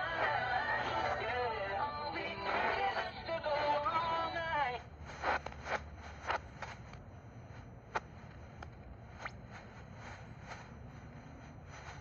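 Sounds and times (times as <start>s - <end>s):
low hum: 0.0s - 12.0s
radio static hiss: 0.0s - 12.0s.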